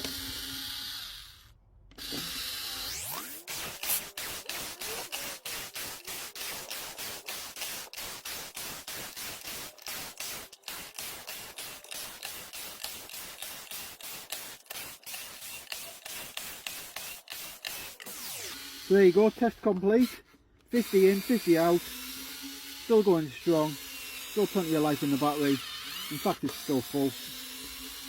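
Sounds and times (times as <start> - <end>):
power screwdriver motor bursts: 0.0 - 28.0.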